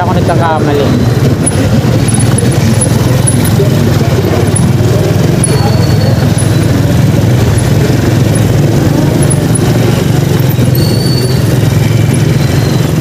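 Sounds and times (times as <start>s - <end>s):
motorcycle engine: 0.0s - 13.0s
road noise: 0.0s - 13.0s
surrounding cars and motorcycles: 0.0s - 13.0s.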